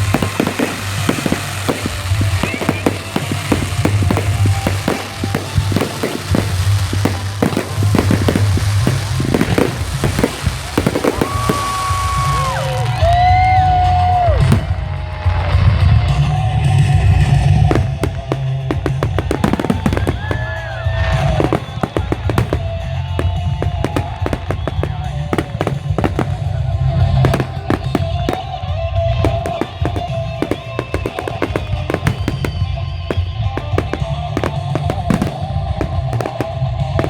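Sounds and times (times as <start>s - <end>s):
fireworks crackling and popping: 0.0s - 37.0s.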